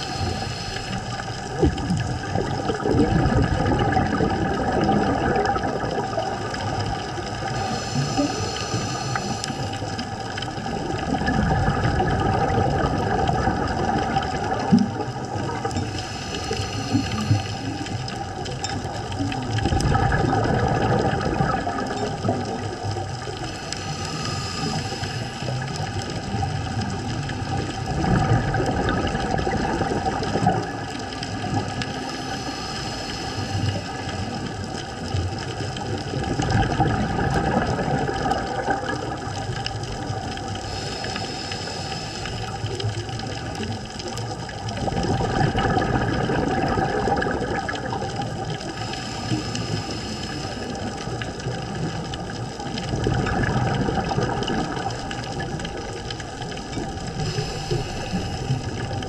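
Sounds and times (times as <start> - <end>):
exhaled bubbles underwater: 0.0 - 59.0
faint steady hum: 0.0 - 59.0.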